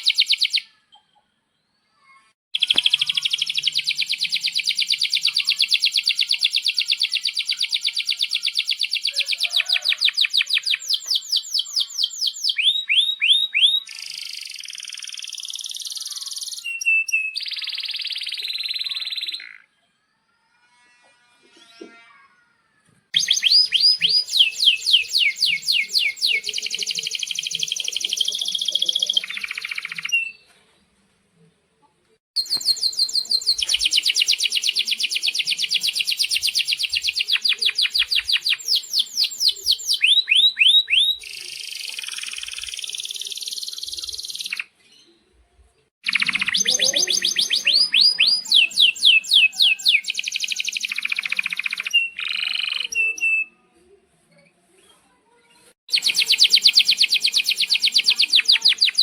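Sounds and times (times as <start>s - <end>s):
canary singing trills: 0.0s - 1.2s, 2.6s - 19.7s, 23.2s - 30.4s, 32.4s - 44.8s, 46.0s - 53.6s, 55.9s - 59.0s.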